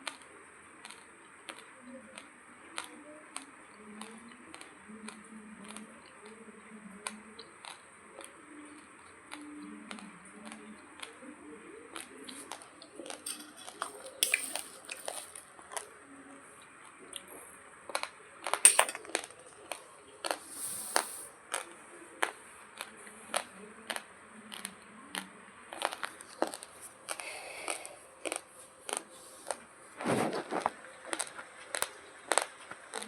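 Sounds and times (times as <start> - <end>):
chewing crunchy rice: 0.0 - 33.0.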